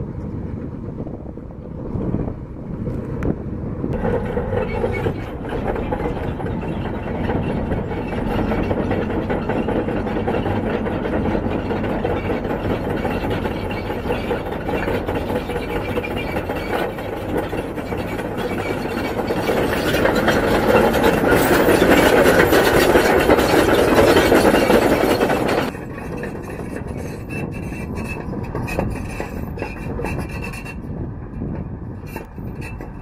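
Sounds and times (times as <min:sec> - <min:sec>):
bulldozer diesel engine running: 0:00.0 - 0:33.0
steel tracks clanking: 0:03.8 - 0:33.0.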